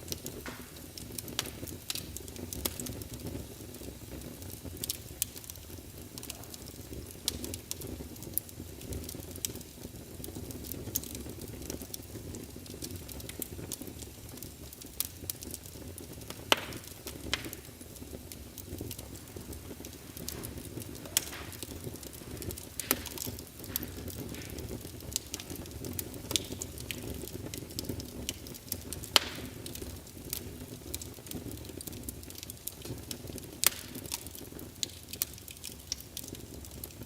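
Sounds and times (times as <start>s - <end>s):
fireplace crackling and popping: 0.0s - 37.0s
low rumble of burning wood: 0.0s - 37.0s.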